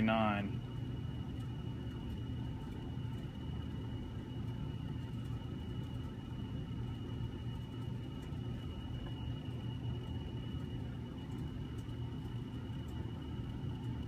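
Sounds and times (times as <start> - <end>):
faint high-pitched whine: 0.0 - 14.0
low electrical hum: 0.0 - 14.0.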